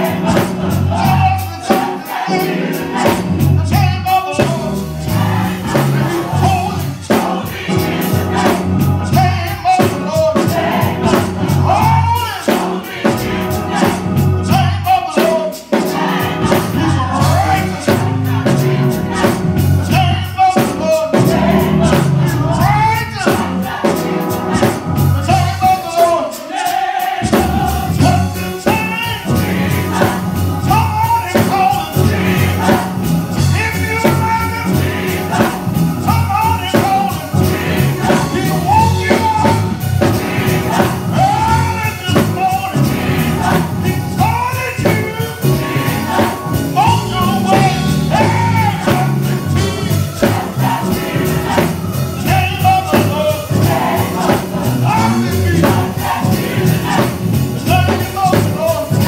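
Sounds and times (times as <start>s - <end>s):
man singing lead: 0.0s - 23.7s, 25.2s - 59.0s
choir singing: 0.0s - 59.0s
steady percussive beat: 0.0s - 59.0s.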